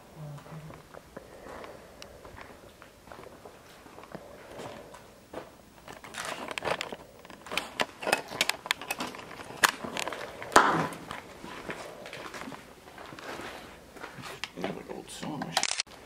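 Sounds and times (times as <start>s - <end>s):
footsteps crunching over debris: 0.7s - 15.0s.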